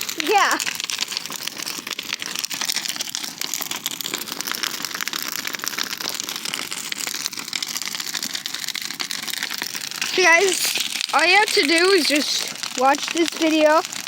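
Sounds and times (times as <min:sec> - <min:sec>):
bonfire crackling: 0:00.0 - 0:14.0.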